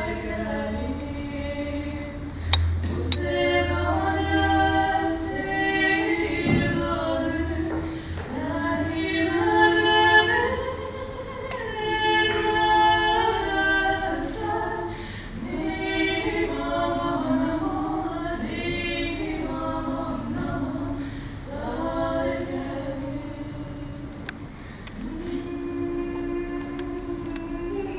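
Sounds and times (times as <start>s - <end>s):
women singing in harmony: 0.0s - 27.9s.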